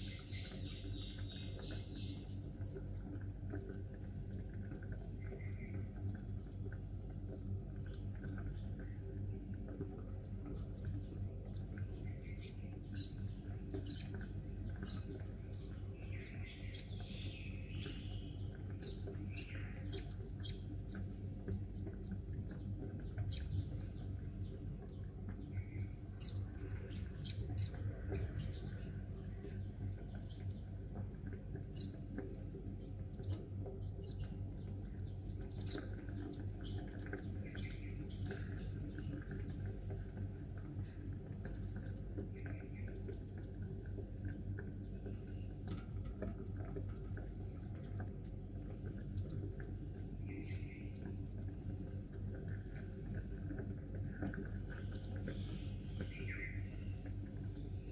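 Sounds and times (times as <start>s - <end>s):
sparrows chirping: 0.0s - 57.9s
steady low hum: 0.0s - 57.9s.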